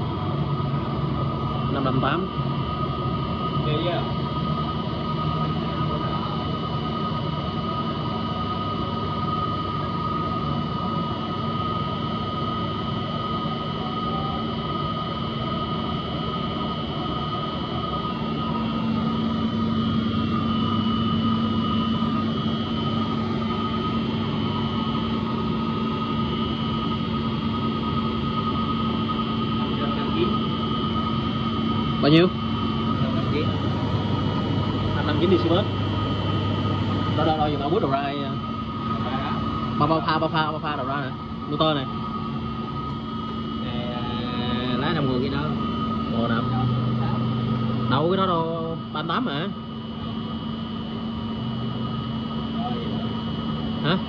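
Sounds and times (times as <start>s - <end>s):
electrical hum and whine: 0.0s - 54.0s
low hum: 0.0s - 54.0s.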